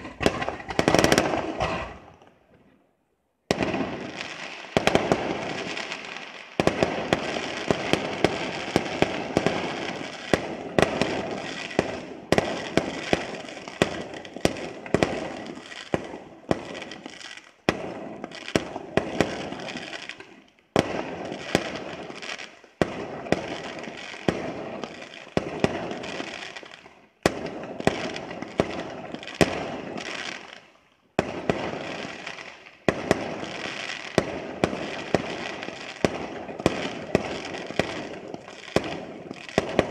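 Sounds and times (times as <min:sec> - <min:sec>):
fireworks bangs: 0:00.0 - 0:02.6, 0:03.4 - 0:39.9.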